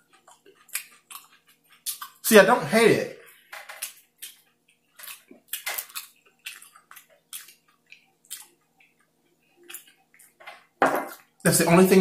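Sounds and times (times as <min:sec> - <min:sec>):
close-up chewing: 0:00.0 - 0:02.3, 0:03.3 - 0:11.4.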